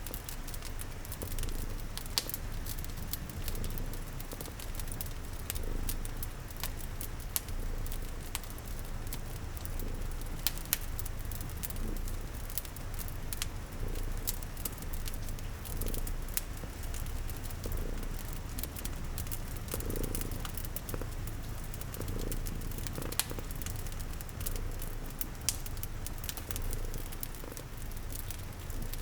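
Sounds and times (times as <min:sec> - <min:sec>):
cat purring: 0:00.0 - 0:29.0
fire crackling: 0:00.0 - 0:29.0
rain patter: 0:00.0 - 0:29.0.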